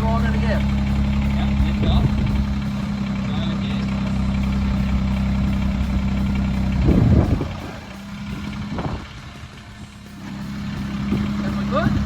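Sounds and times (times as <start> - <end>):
loud burst: 0.0 - 12.0
tractor diesel engine running: 0.0 - 12.0.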